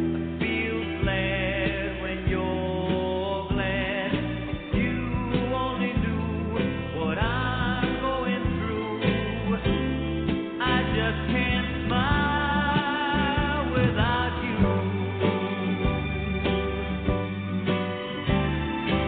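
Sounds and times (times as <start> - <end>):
song with singing: 0.0 - 19.0.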